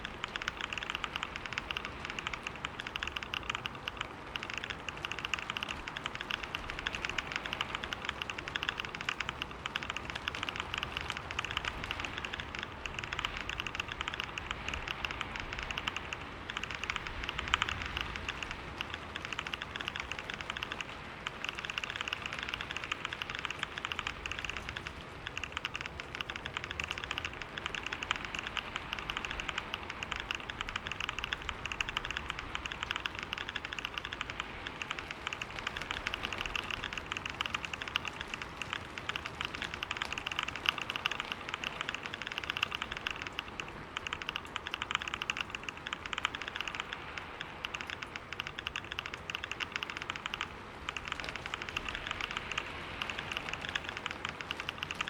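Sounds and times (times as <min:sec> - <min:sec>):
rapid keyboard typing: 0:00.0 - 0:55.0.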